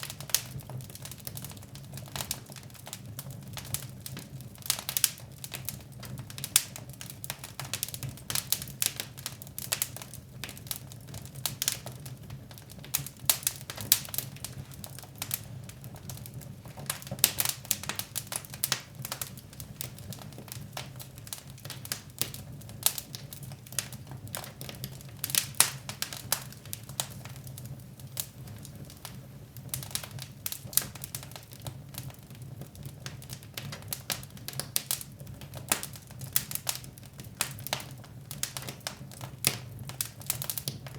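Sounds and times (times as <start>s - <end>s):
fire pops and snaps: 0.0s - 40.9s
wood fire crackling: 0.0s - 40.9s.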